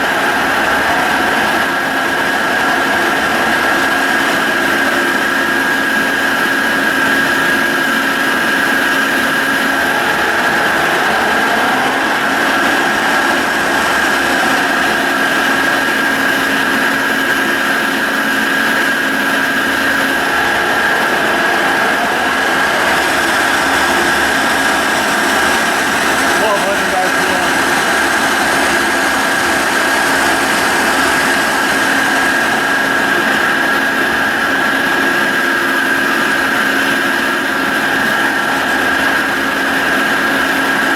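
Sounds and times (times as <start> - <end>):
drill press hum and whine: 0.0 - 40.9.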